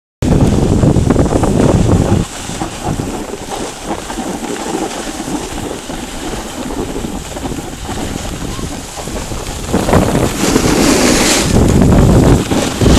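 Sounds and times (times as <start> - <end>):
wind buffeting microphone: 0.2 - 12.9
skis sliding on snow: 0.3 - 12.9.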